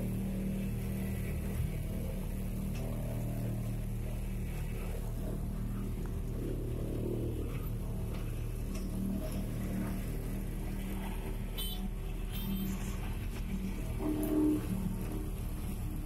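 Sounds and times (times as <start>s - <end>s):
traffic engines humming: 0.0s - 16.0s.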